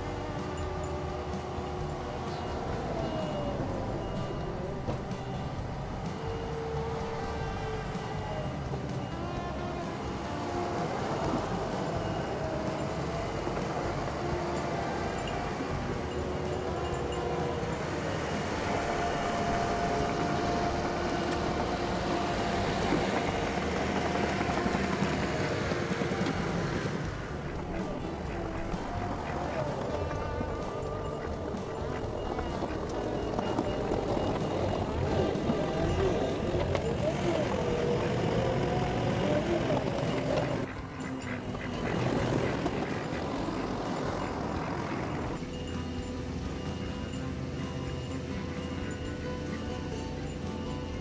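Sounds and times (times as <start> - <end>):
faint whining tones: 0.0 - 51.0
skid steer engine running: 0.0 - 51.0.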